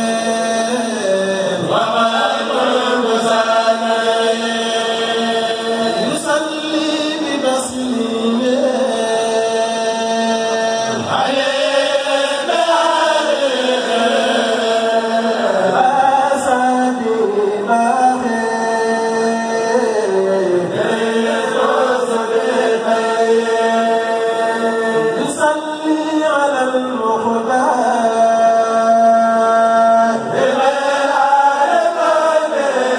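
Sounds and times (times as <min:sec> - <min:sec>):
men chanting in chorus: 0:00.0 - 0:32.9.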